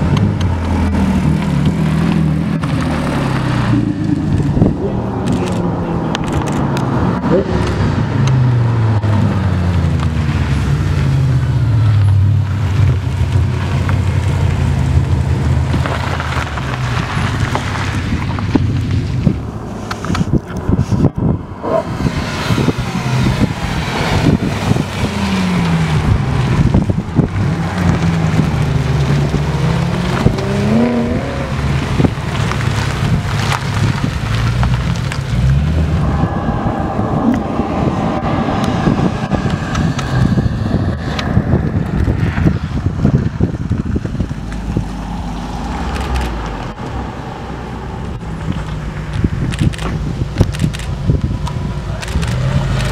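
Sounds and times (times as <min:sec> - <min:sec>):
sports car engines accelerating: 0:00.0 - 0:52.9.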